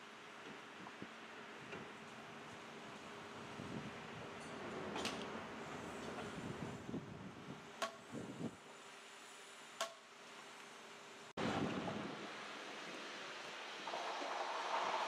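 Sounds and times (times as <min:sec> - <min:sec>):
low rumble of machinery: 0:00.0 - 0:15.0
wind: 0:00.0 - 0:15.0.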